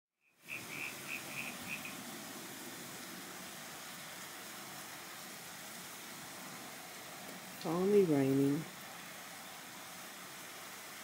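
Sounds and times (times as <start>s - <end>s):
rain hissing: 0.3s - 11.0s.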